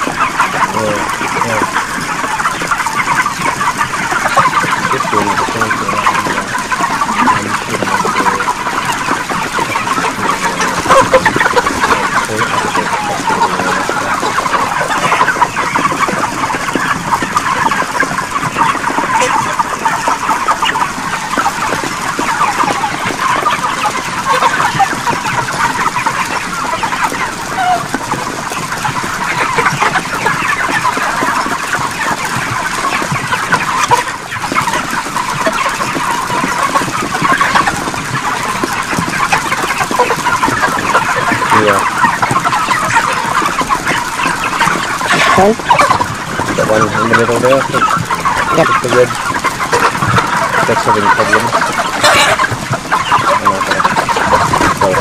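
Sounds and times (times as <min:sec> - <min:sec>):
flock of chickens calling: 0:00.0 - 0:55.0.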